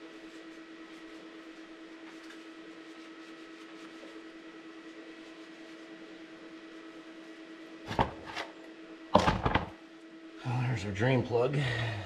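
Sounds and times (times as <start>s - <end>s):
steady appliance hum: 0.0s - 12.0s.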